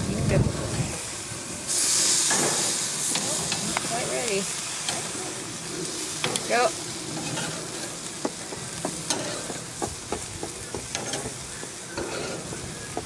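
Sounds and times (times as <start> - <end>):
burger patties sizzling on grill: 0.0 - 13.0
metal spatula scraping grill grate: 1.7 - 13.0.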